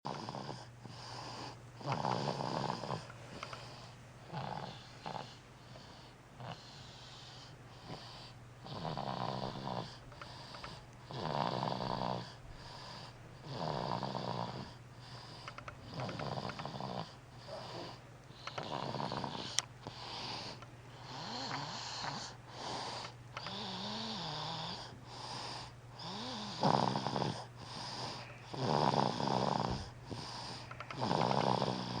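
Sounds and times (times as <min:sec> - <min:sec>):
baby snoring: 0:00.1 - 0:32.0
steady low hum: 0:00.1 - 0:32.0.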